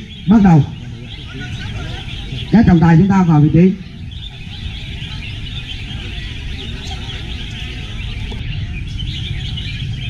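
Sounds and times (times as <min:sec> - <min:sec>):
birds chirping and warbling: 0:00.0 - 0:10.0.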